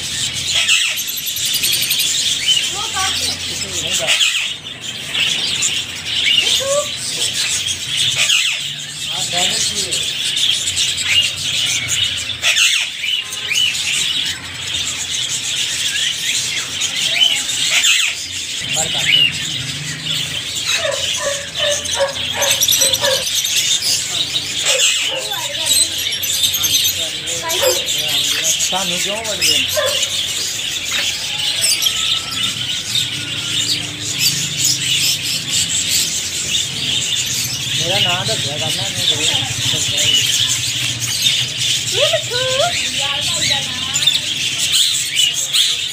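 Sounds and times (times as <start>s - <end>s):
parakeets chirping: 0.0s - 45.9s.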